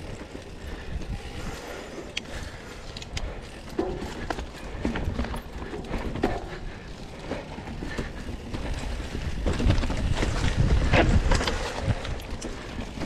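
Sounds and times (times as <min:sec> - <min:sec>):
wind rumbling on microphone: 0:00.0 - 0:06.6, 0:07.8 - 0:13.0
bike tyre noise: 0:00.0 - 0:13.0
bike knocks and rattles: 0:02.3 - 0:13.0.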